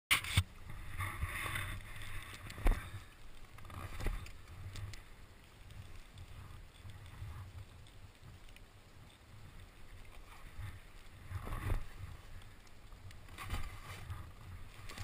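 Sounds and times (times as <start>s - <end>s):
skis scraping over snow: 0.2s - 15.0s.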